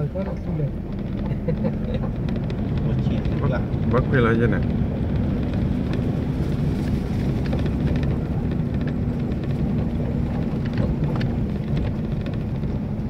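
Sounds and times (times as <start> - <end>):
rattles and knocks from bumps: 0.0 - 13.0
vehicle engine rumble: 0.0 - 13.0.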